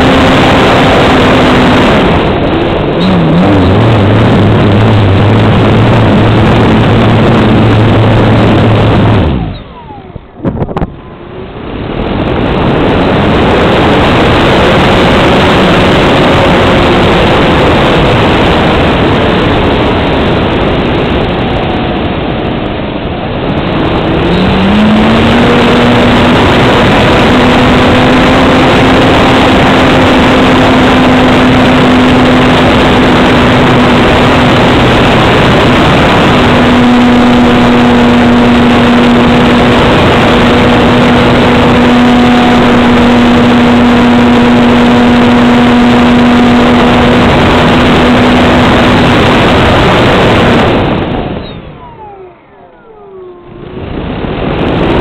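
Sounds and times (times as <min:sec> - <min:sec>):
model airplane engine and propeller: 0:00.0 - 0:55.0.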